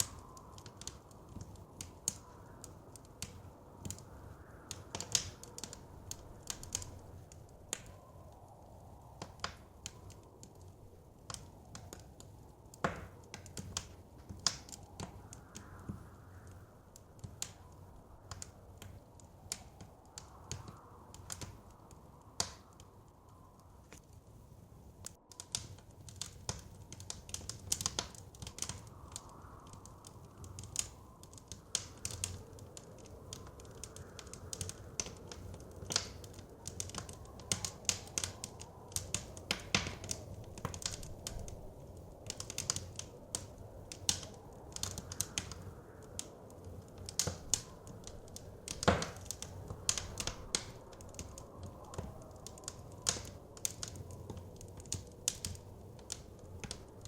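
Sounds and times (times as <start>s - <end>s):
soft wind rumble: 0.0s - 57.0s
wood fire crackling and popping: 0.0s - 57.0s.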